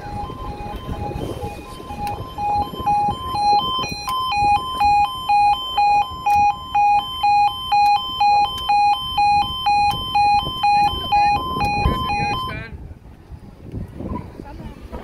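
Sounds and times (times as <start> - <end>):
two-tone level crossing alarm: 0.0 - 12.6.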